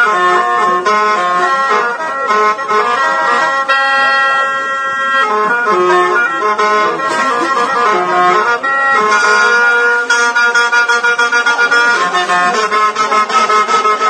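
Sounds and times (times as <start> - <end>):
free-reed mouth organ playing: 0.0 - 14.0.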